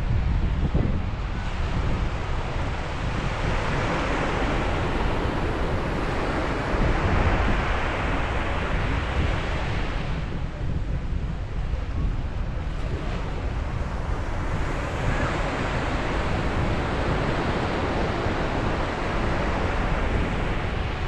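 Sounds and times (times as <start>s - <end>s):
wind rumble on microphone: 0.0s - 21.0s
sea waves breaking on beach: 1.5s - 10.2s, 12.6s - 21.0s.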